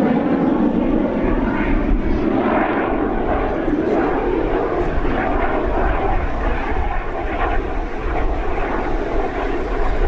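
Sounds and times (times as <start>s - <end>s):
jet passing overhead: 0.0s - 10.0s.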